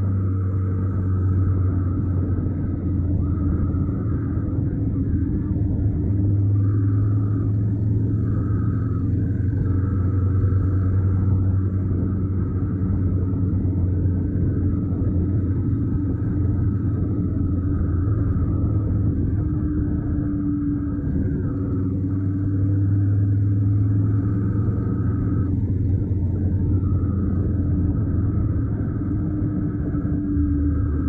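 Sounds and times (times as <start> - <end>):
motorcycle engine rumbling: 0.0 - 31.0
road noise: 0.0 - 31.0
wind noise: 0.0 - 31.0.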